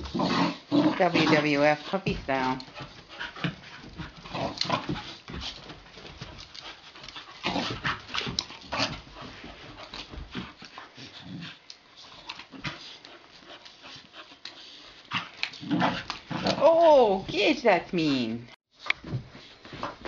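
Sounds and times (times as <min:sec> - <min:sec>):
puppies scuffling: 0:00.8 - 0:20.0.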